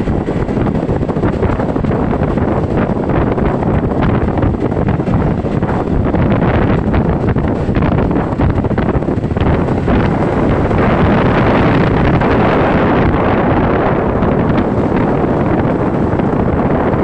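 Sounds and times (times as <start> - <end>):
scooter road and engine noise: 0.0 - 17.0
wind buffeting microphone: 0.0 - 17.0.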